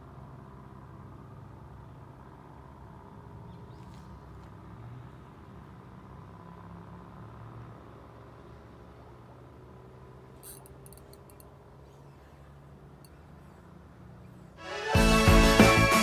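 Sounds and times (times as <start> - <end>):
faint outdoor rumble: 0.0 - 14.6.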